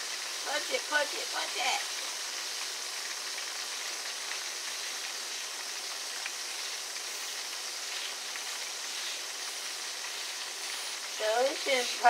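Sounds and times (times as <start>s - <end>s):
scallops sizzling in oil: 0.0s - 12.0s.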